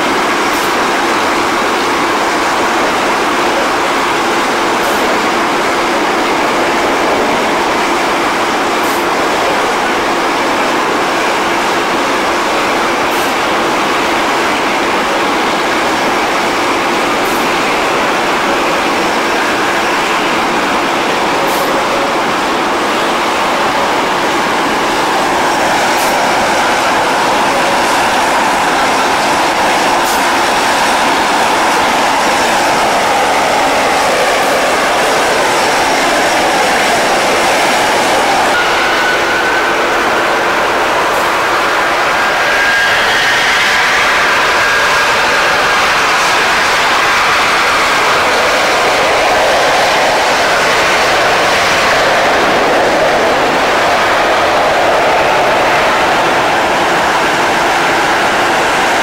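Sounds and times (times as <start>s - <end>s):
jet engine noise: 0.0s - 59.0s.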